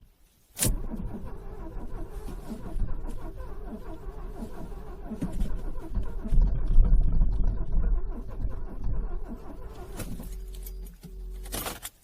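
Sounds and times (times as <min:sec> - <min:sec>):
car starter motor cranking: 0:00.6 - 0:11.9.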